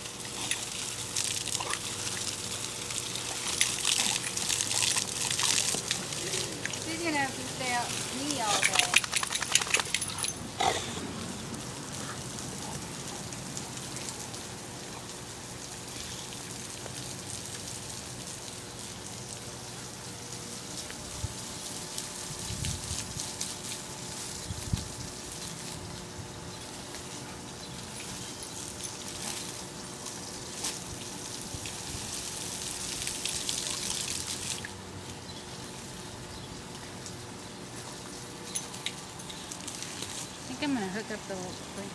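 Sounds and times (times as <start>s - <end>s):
garden hose spraying water: 0.0s - 41.9s.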